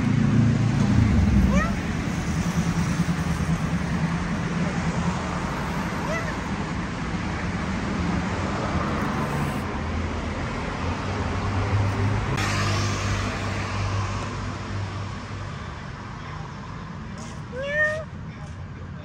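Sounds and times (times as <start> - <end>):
passing vehicles rumble: 0.0 - 19.0.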